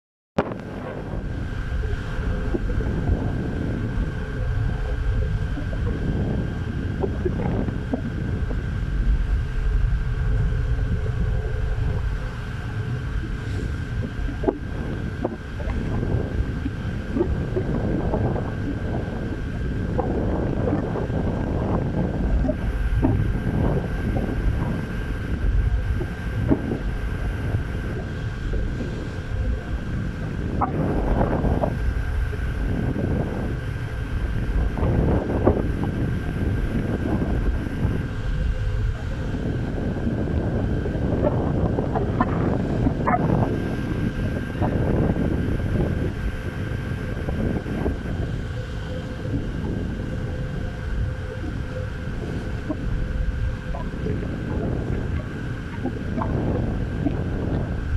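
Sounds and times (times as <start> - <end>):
faint steady hum: 0.4 - 57.9
wind buffeting microphone: 0.4 - 57.9.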